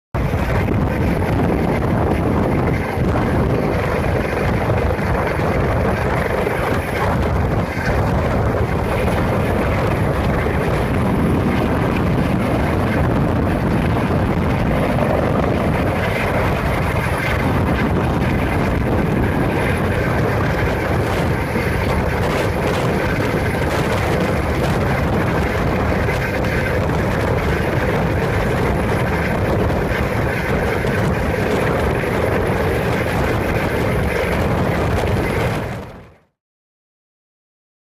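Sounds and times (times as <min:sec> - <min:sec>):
loud engine roar: 0:00.2 - 0:36.0.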